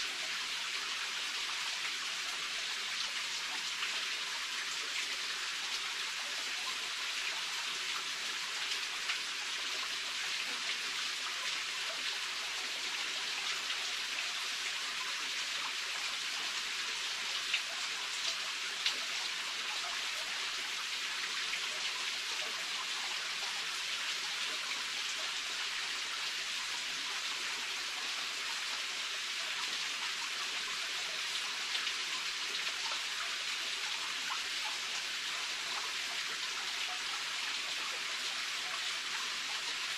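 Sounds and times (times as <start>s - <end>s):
steady water hiss: 0.0s - 39.9s.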